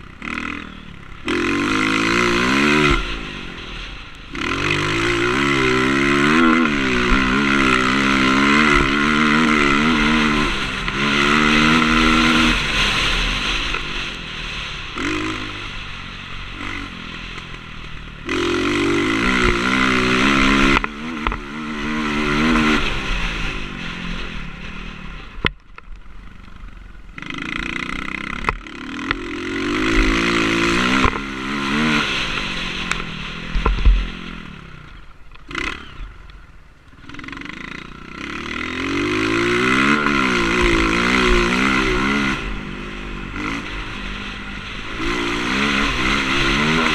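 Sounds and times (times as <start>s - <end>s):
motocross bike engine revving: 0.0s - 25.5s, 26.2s - 46.9s.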